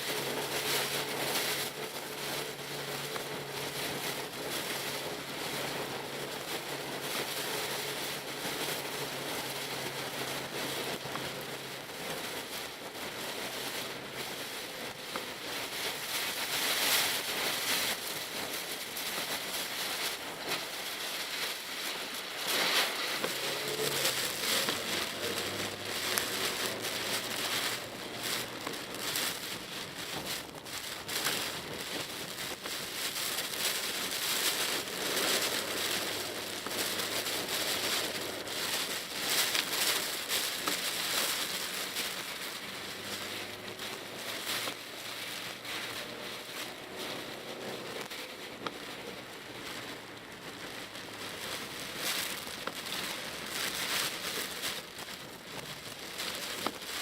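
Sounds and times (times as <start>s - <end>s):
heavy rain on car roof: 0.0s - 57.0s
faint car engine running: 0.1s - 57.0s.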